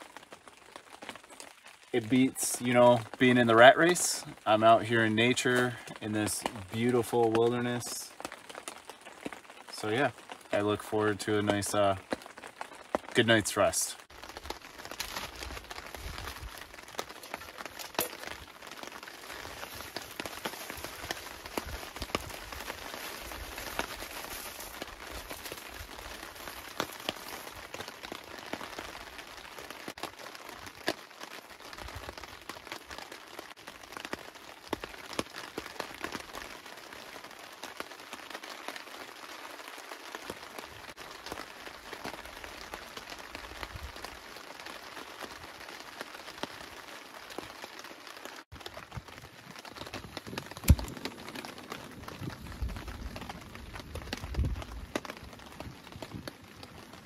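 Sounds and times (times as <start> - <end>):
raindrops ticking on a tarp: 0.0 - 57.0
steady rain: 0.0 - 57.0.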